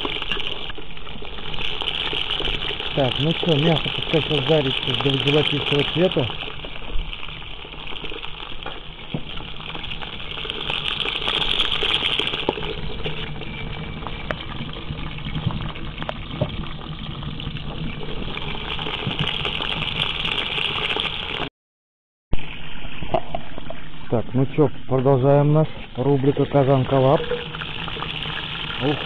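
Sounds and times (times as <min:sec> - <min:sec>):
meat sizzling and crackling: 0:00.0 - 0:21.5, 0:26.0 - 0:29.0.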